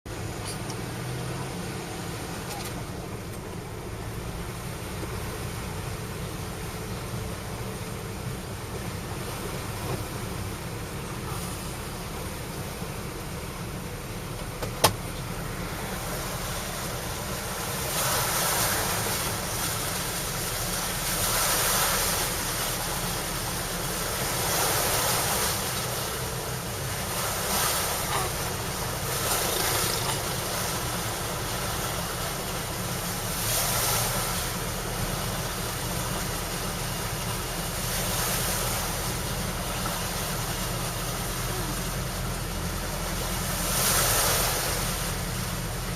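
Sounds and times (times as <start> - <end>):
tyres hissing through water: 0.1 - 45.9.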